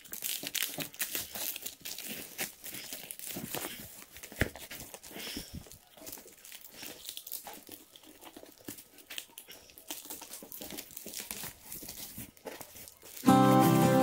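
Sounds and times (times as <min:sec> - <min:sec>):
cardboard ripping: 0:00.0 - 0:13.8
plastic wrap and tape crinkling: 0:00.0 - 0:14.0.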